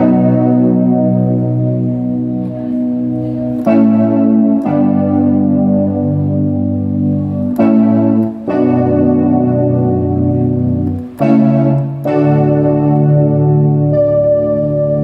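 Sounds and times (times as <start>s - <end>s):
keyboard playing held chords: 0.0s - 15.0s.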